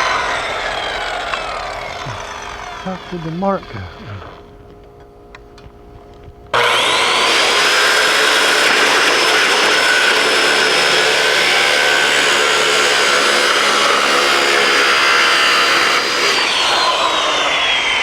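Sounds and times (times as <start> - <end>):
motor winding down: 0.0 - 4.4, 6.6 - 18.0
power tool cutting metal: 0.0 - 4.4, 6.6 - 18.0.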